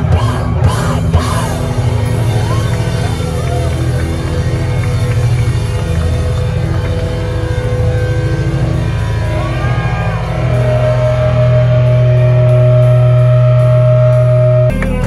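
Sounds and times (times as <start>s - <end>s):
live band playing distorted rock: 0.0s - 15.0s.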